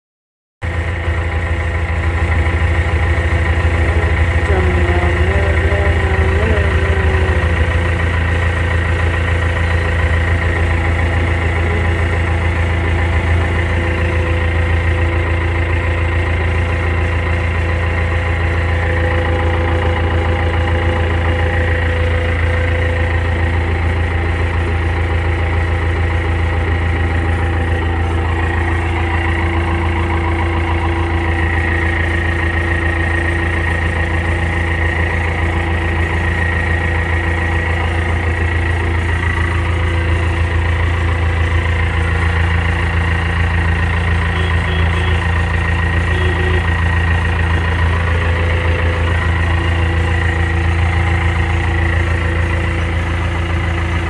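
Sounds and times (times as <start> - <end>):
diesel engine idling: 0.6 - 54.0.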